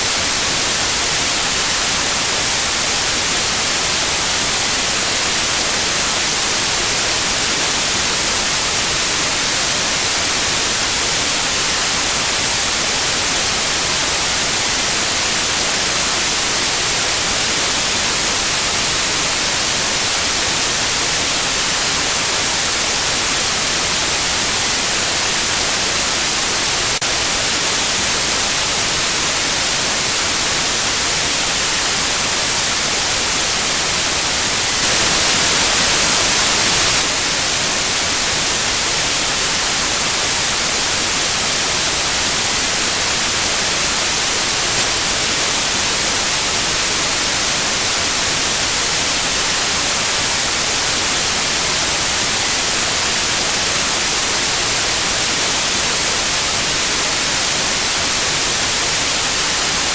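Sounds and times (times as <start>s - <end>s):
high-pitched steady tone: 0.0s - 59.9s
white noise hiss: 0.0s - 59.9s.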